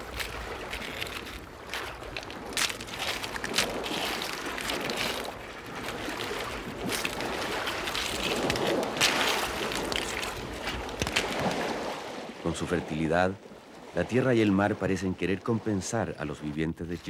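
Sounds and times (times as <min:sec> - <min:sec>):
surf washing: 0:00.0 - 0:17.0
wind: 0:00.0 - 0:17.0.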